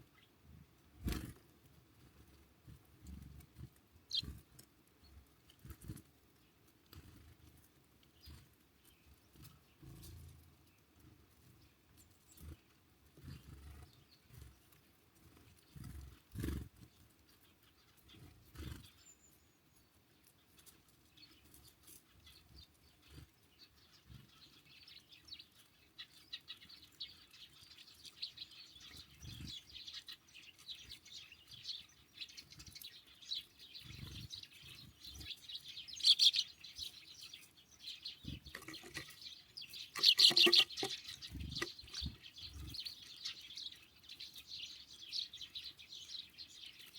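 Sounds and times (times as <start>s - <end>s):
songbirds chirping and twittering: 0.0s - 46.9s.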